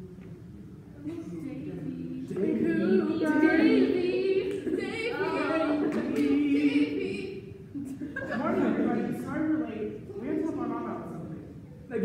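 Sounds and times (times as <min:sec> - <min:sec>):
young voices singing a cappella: 0:01.0 - 0:11.1.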